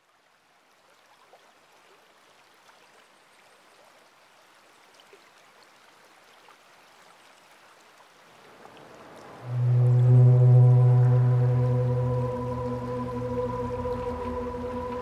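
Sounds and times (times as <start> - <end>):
faint running water: 0.0 - 15.0.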